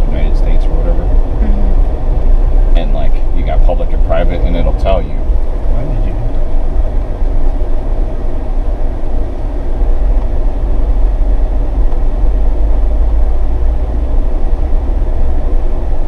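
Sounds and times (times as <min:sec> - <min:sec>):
vehicle engine and tyres rumbling: 0:00.0 - 0:16.0.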